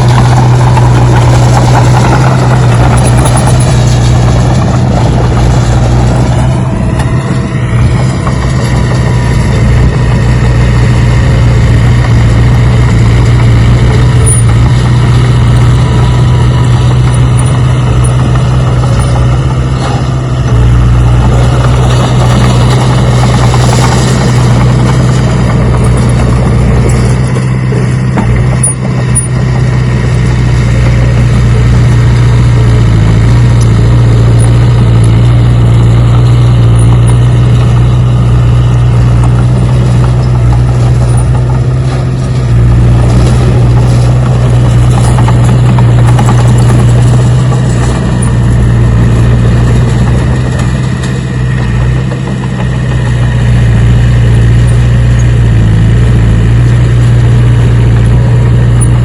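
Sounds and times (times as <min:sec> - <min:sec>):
machine engine humming: 0:00.0 - 0:59.0.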